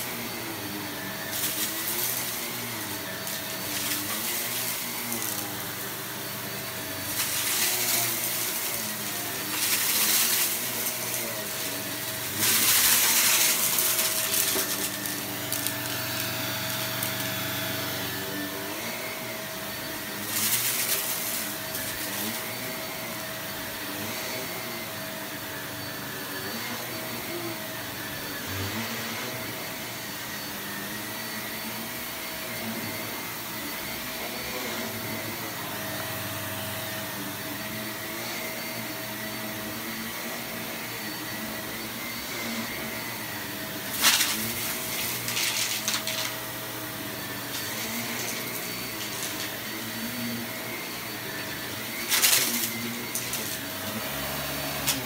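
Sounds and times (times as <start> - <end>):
vacuum cleaner motor hum: 0.0 - 55.0.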